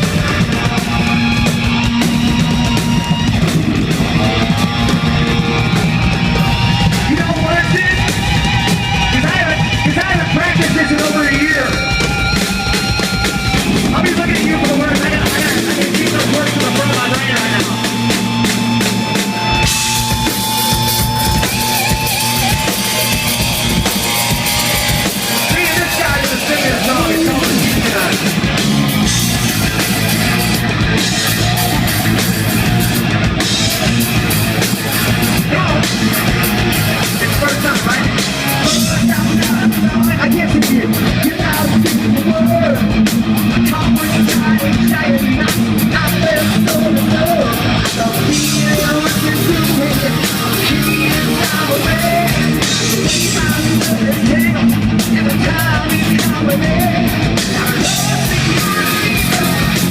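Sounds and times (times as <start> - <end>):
hard rock band playing live: 0.0 - 59.9.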